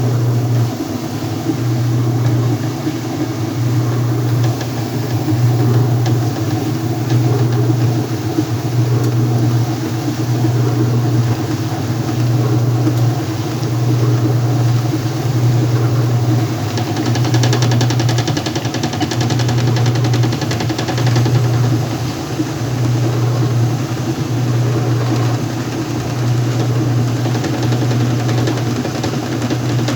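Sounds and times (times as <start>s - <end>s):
washing machine fast rattle: 0.0s - 29.9s
washing machine motor humming: 0.0s - 29.9s.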